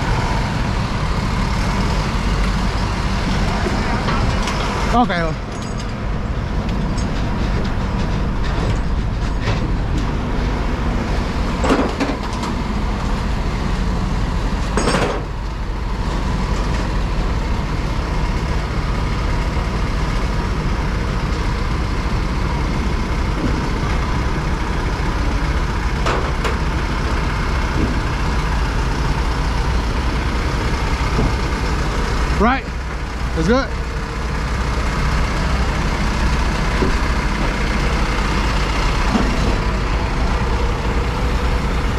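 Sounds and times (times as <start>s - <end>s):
diesel engine rumbling: 0.0s - 41.9s.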